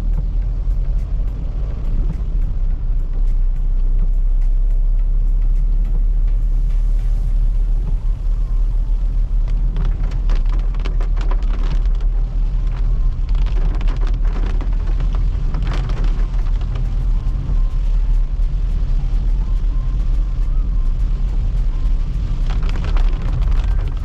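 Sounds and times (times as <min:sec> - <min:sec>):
car engine and road rumble: 0:00.0 - 0:24.0
raindrops ticking on windscreen: 0:00.0 - 0:24.0.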